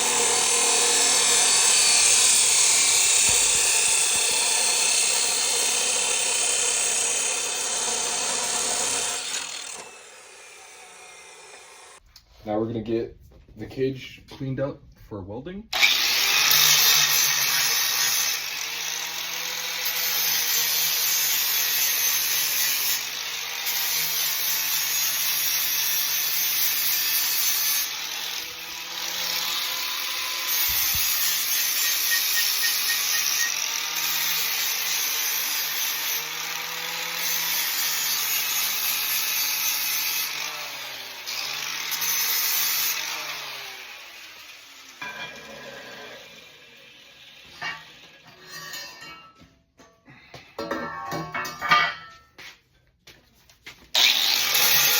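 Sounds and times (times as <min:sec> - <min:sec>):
grinder grinding metal: 0:00.0 - 0:12.0, 0:15.8 - 0:49.5, 0:53.9 - 0:54.9.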